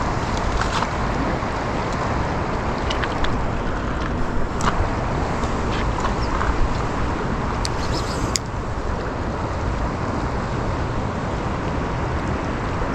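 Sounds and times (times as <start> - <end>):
river current rushing: 0.0 - 12.9.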